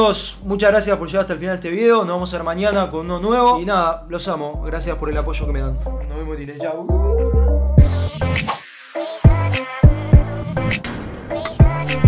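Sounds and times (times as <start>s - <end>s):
beat music with deep bass: 2.2s - 12.0s.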